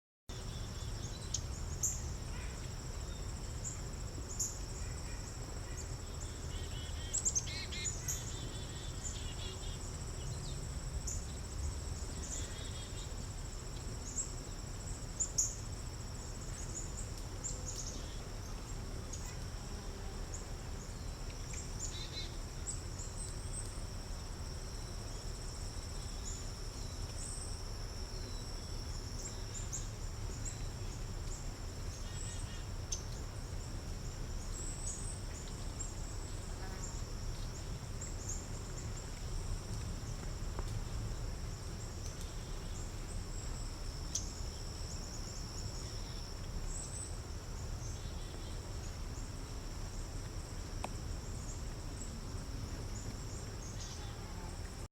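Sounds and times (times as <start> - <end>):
insects trilling: 0.3 - 54.9.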